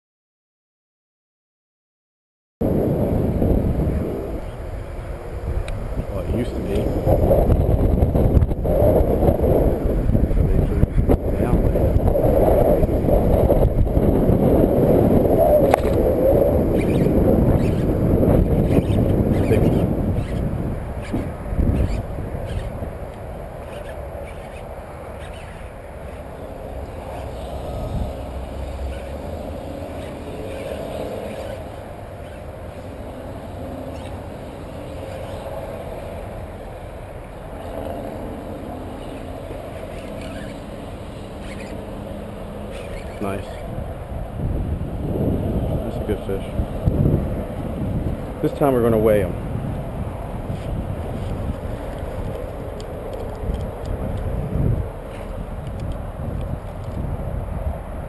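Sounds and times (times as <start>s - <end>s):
wind buffeting microphone: 2.6s - 58.0s.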